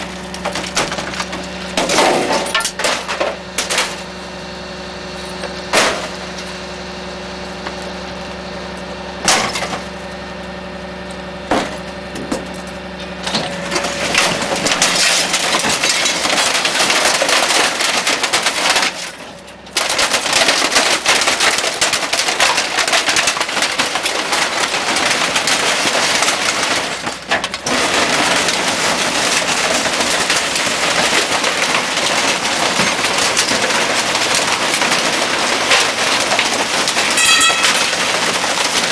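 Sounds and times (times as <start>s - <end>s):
compactor crunching trash: 0.0s - 38.9s
truck engine running: 0.0s - 38.9s.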